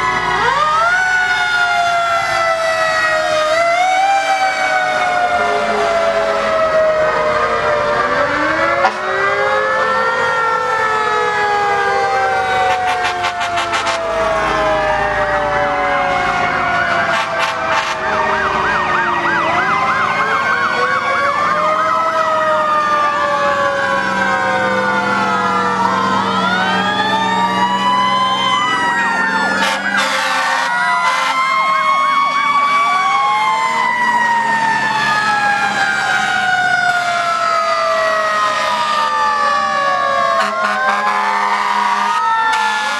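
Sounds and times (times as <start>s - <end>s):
fire engine sirens wailing: 0.0s - 42.9s.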